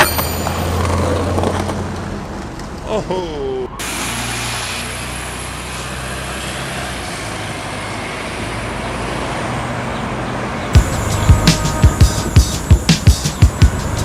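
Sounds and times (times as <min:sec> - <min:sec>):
road traffic engine hum: 0:00.0 - 0:14.0.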